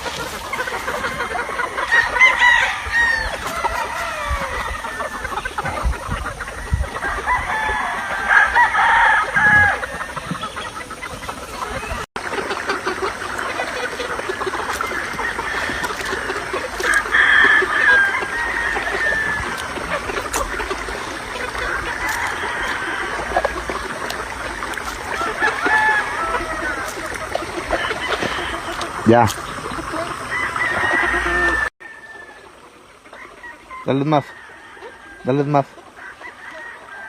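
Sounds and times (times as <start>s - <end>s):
hens clucking: 0.0s - 37.0s
roosters crowing: 0.0s - 37.0s.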